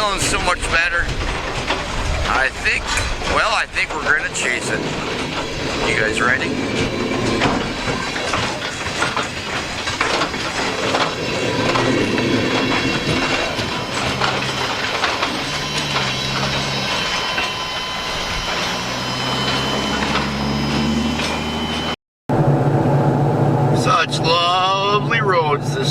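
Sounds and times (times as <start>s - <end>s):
train wheels clicking over rail joints: 0.0s - 22.0s.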